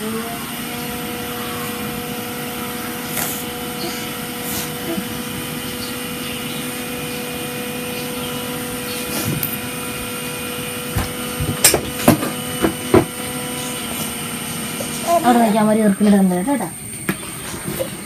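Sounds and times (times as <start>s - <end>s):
small motor humming: 0.0s - 18.0s.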